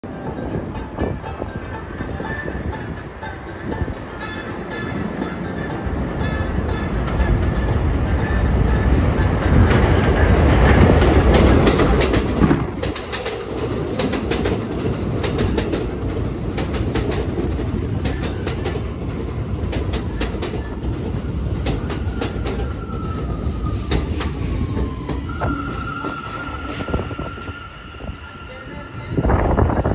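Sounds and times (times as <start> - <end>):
subway train running: 0.0 - 29.9
train whine: 0.0 - 29.9
wheels clacking over rail joints: 0.1 - 27.7.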